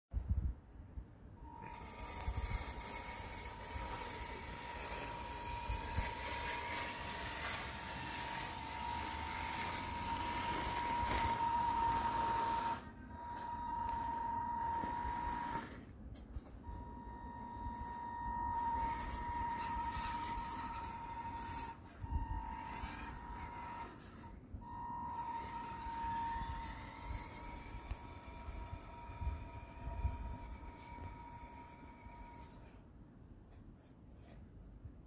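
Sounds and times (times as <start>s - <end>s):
electric motor whine: 1.4s - 15.8s, 16.6s - 32.8s.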